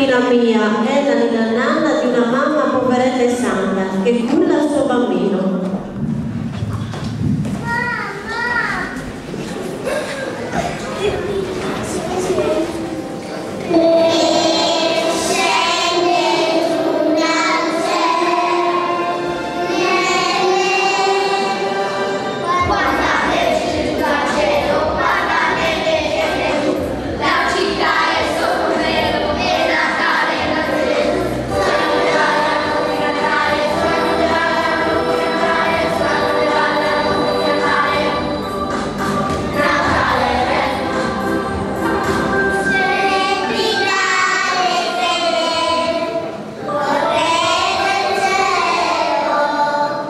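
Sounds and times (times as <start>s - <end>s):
deep backing sound: 1.5s - 49.8s
children's choir singing: 9.0s - 50.0s.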